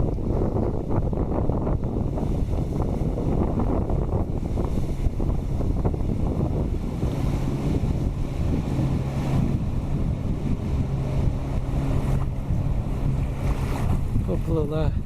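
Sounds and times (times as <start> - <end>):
motorboat engine humming: 0.0 - 15.0
wind noise on microphone: 0.0 - 15.0.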